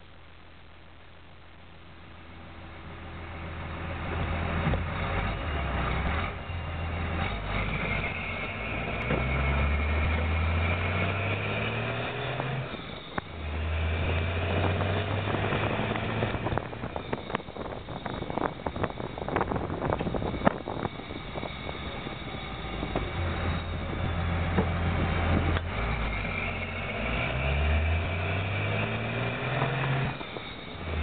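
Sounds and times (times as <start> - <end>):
diesel truck engine accelerating: 2.3 - 31.0.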